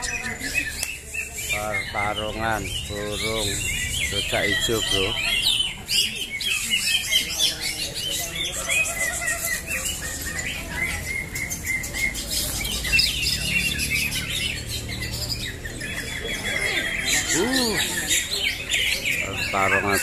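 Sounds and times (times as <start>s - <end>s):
chorus of birds singing: 0.0s - 20.0s.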